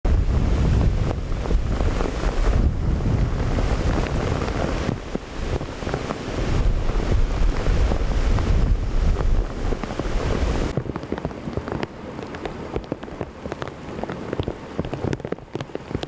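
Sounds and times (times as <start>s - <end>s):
wind buffeting microphone: 0.0s - 16.0s
heavy rain hiss: 0.1s - 16.0s.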